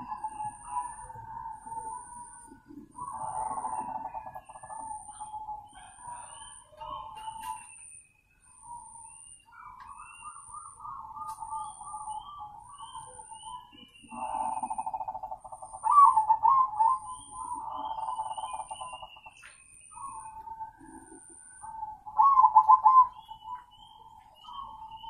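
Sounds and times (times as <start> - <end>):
doves cooing: 0.0 - 7.7, 8.8 - 25.0
faint high-pitched peep: 0.0 - 25.0.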